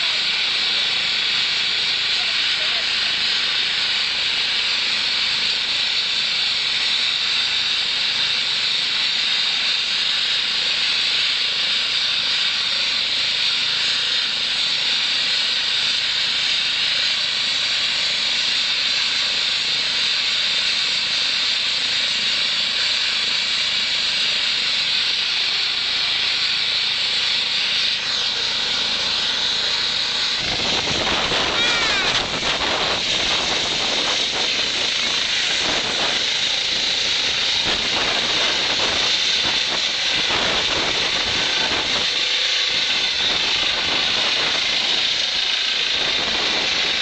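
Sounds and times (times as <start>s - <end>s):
helicopter turbine and rotor hiss: 0.0s - 47.0s.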